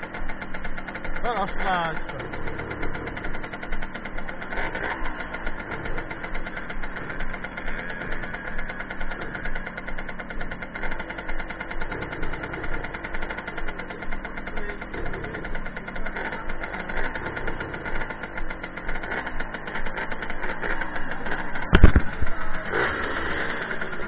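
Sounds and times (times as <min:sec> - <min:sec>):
moped engine idling: 0:00.0 - 0:24.0.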